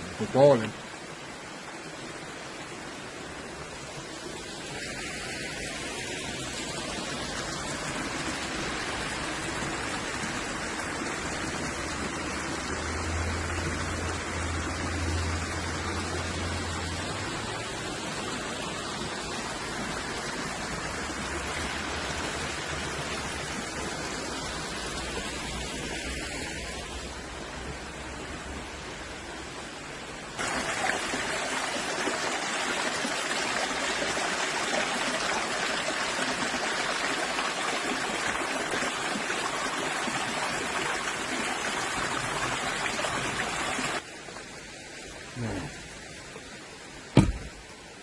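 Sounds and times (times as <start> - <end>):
waterfall rushing over rocks: 0.0 - 48.0.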